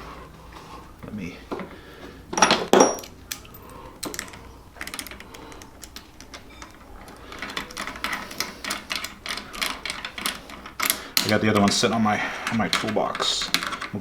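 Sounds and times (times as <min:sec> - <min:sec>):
metal parts and tools clicking: 0:02.3 - 0:14.0.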